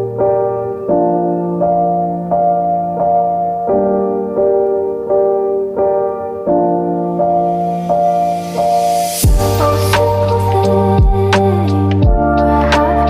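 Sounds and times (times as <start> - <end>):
soft electric piano chords: 0.0 - 13.0.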